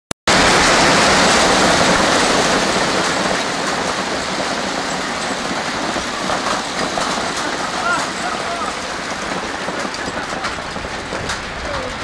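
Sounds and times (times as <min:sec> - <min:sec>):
heavy rain on street: 0:00.3 - 0:12.0.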